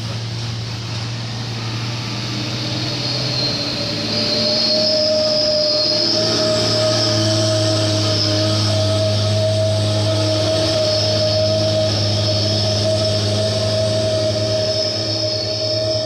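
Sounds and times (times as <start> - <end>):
high steady squeal: 0.0 - 16.0
truck engine drone: 0.0 - 16.0.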